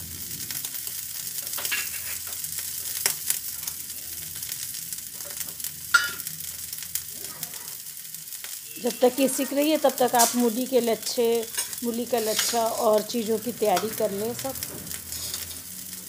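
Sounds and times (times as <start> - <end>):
crackles and pops: 0.0 - 16.0
food sizzling in oil: 0.0 - 16.0.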